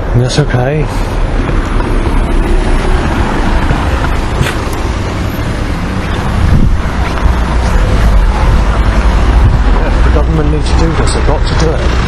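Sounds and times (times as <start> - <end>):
road traffic passing close: 0.0 - 12.0.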